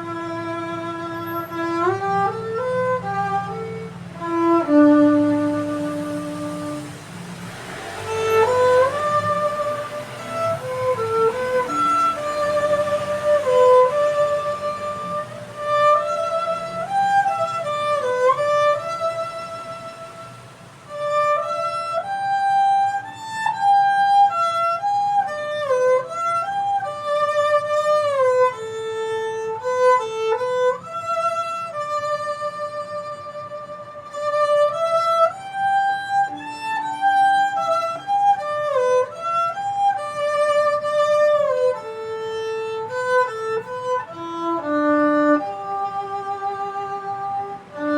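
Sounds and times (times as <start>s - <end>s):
bowed string instrument melody: 0.0s - 47.9s.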